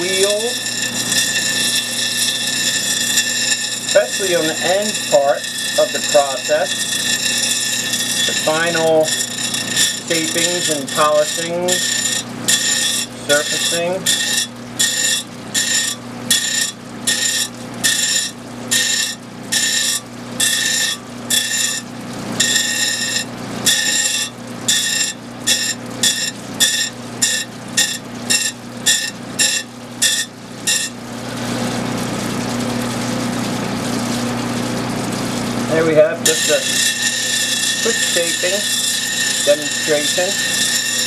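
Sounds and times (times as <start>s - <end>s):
high-pitched grinding whine: 0.0s - 41.0s
running water: 0.0s - 41.0s
steady motor hum: 0.0s - 41.0s.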